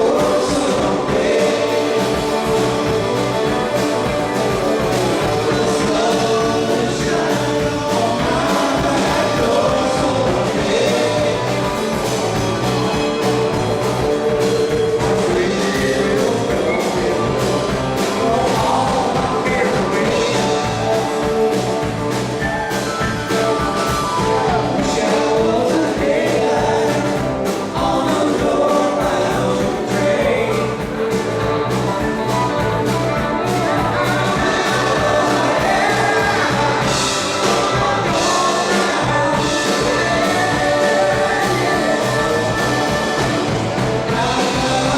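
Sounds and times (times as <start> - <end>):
person singing: 0.0 - 21.8, 22.4 - 44.9
live rock band playing: 0.0 - 44.9.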